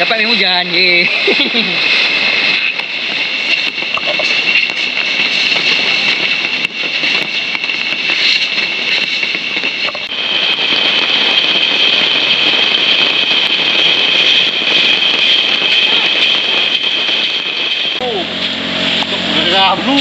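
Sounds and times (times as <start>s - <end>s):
high-pitched steady drone: 0.0s - 20.0s.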